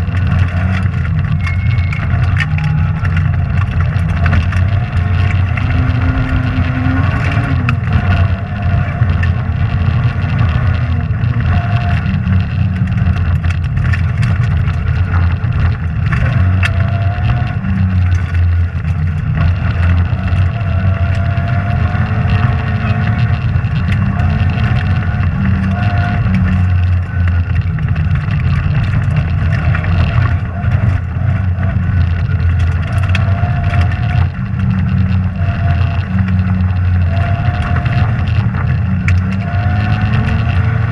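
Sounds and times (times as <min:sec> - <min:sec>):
car engine revving hard: 0:02.0 - 0:40.9.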